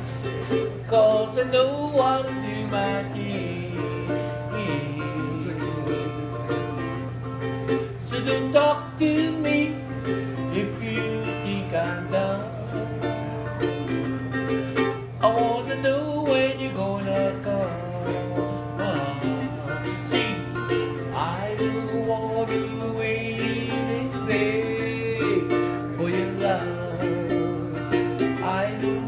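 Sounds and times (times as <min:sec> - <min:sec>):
person singing: 0:00.0 - 0:07.0, 0:07.9 - 0:29.0
steady low hum: 0:00.0 - 0:29.0
ukulele strummed and picked: 0:00.0 - 0:29.0.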